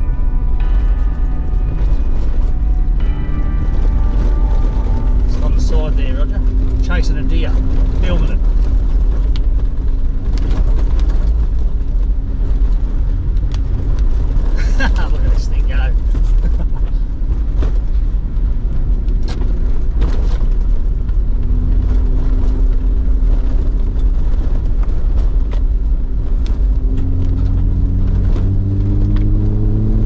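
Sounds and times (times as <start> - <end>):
vehicle engine and tyres rumbling: 0.0 - 30.0.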